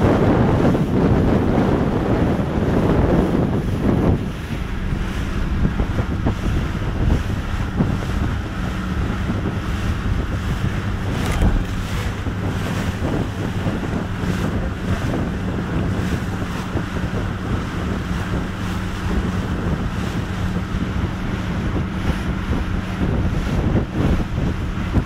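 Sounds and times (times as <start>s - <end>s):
boat engine drone: 0.0s - 25.0s
hull slamming through waves: 0.0s - 25.0s
wind buffeting microphone: 0.0s - 25.0s.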